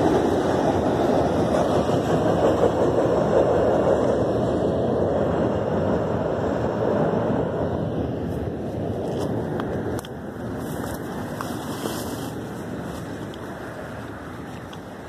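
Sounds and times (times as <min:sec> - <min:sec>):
freight train rumble: 0:00.0 - 0:15.0.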